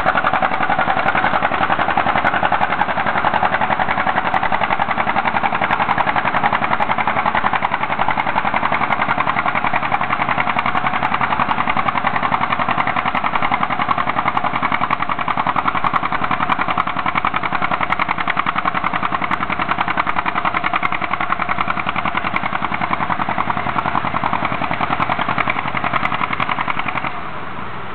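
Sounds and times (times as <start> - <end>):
tractor engine popping: 0.0 - 27.3.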